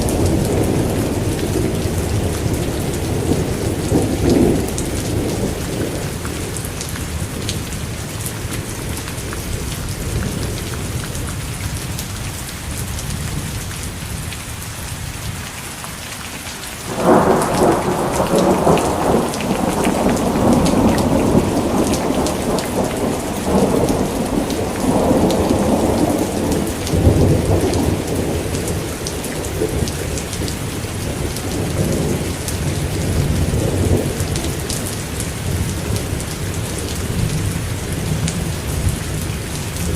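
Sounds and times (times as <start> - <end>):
thunder rumbling: 0.0 - 11.0, 16.9 - 39.9
heavy rain falling: 0.0 - 39.9.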